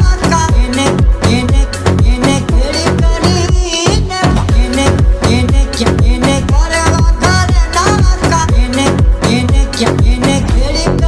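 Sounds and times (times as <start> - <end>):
song with fast drum beat: 0.0 - 11.0.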